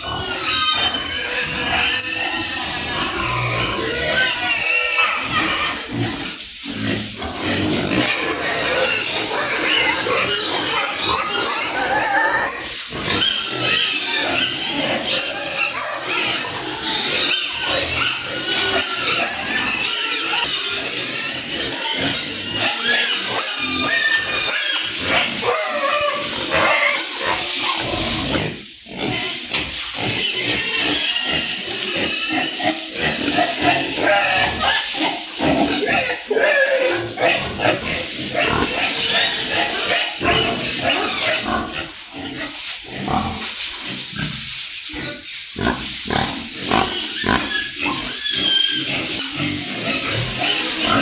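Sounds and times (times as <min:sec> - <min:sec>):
pigs grunting and squealing: 0:00.0 - 0:51.0.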